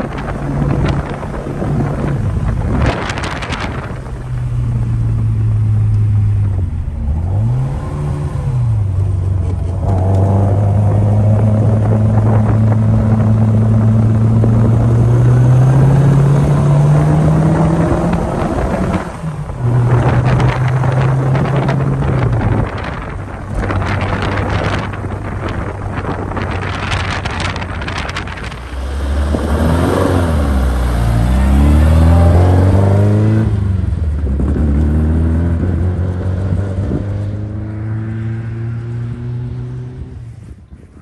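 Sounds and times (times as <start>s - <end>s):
car engine running: 0.0s - 34.8s.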